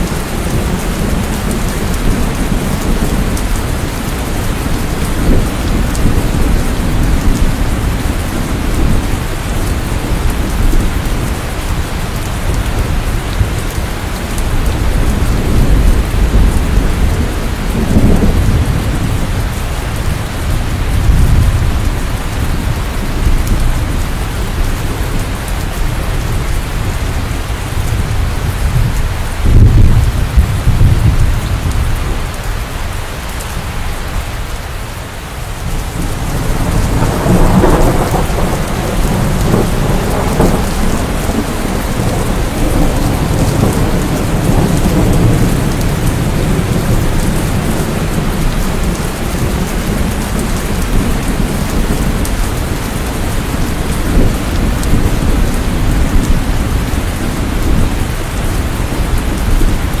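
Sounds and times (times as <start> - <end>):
rolling thunder: 0.0 - 32.6, 35.5 - 60.0
heavy rain: 0.0 - 60.0.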